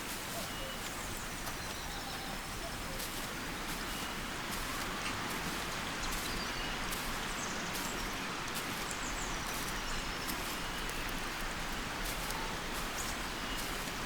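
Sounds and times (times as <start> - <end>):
leaves rustling in wind: 0.0 - 14.0.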